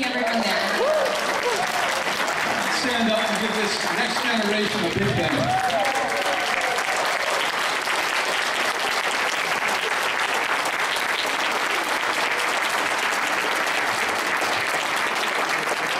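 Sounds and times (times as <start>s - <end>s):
large audience applause: 0.0s - 15.9s.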